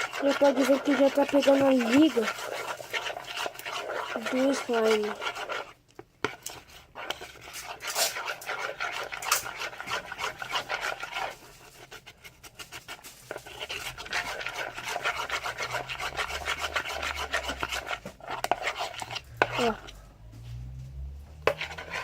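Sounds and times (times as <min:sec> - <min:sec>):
utensil scraping slime in a bowl: 0:00.0 - 0:22.0.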